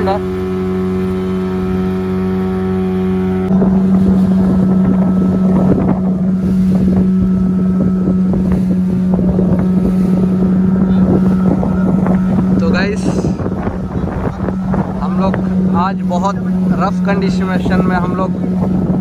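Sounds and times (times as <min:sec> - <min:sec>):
boat engine drone: 0:00.0 - 0:19.0
water splashing against hull: 0:00.0 - 0:19.0
wind buffeting microphone: 0:00.0 - 0:19.0.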